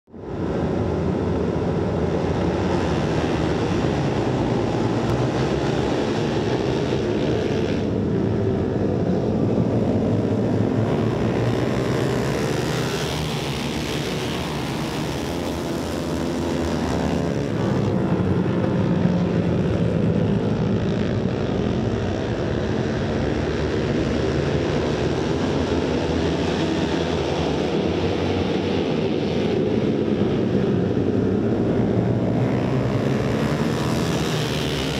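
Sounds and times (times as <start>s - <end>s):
motorcycle engines droning: 0.1s - 34.9s.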